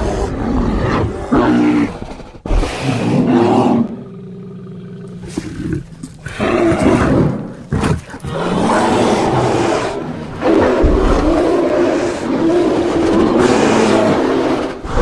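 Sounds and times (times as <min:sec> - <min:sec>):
bear low growl: 0:00.0 - 0:15.0
bear roaring: 0:00.0 - 0:15.0.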